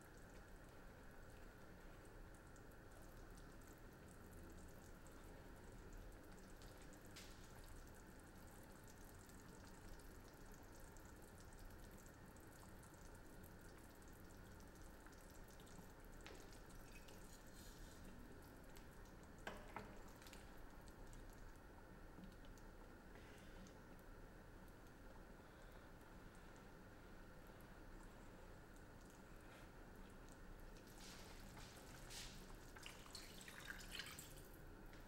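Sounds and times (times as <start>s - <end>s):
soup bubbling in pot: 0.0s - 35.0s.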